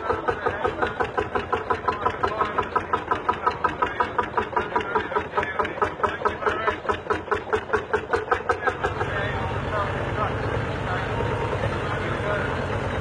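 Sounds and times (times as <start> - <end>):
tractor engine chugging: 0.0 - 13.0.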